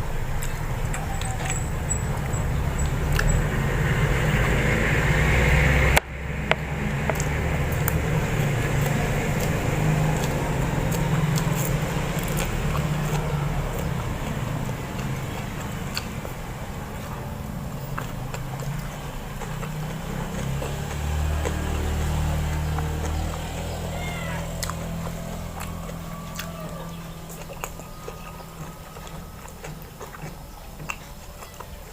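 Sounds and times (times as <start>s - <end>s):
chewing with small clicks: 0.0s - 31.9s
steady low hum: 0.0s - 31.9s.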